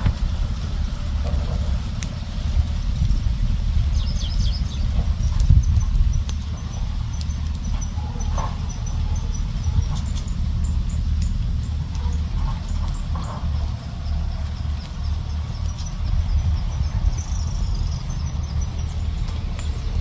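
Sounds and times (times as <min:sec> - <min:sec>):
stick fire crackling: 0:00.0 - 0:20.0
wind rumble on microphone: 0:00.0 - 0:20.0.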